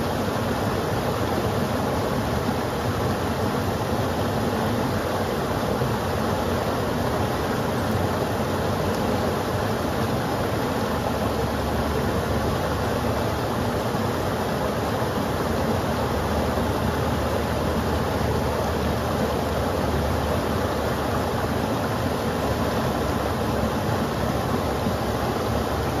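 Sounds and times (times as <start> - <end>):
creek rushing over rocks: 0.0 - 26.0.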